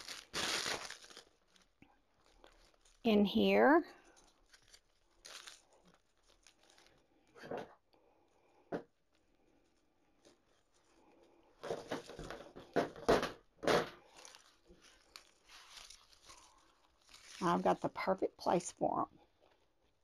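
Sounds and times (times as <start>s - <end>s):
artificial stems rustling: 0.0s - 20.0s.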